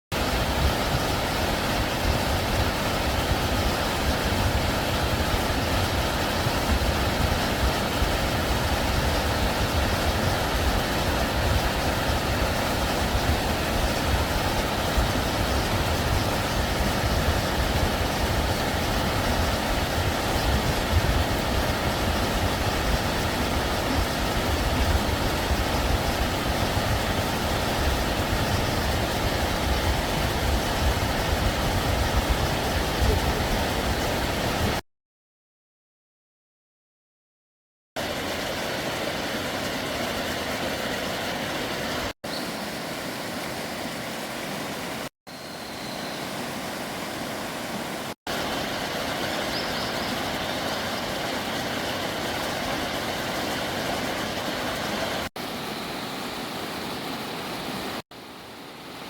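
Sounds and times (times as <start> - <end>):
mountain stream rushing: 0.1 - 34.8, 38.0 - 59.0.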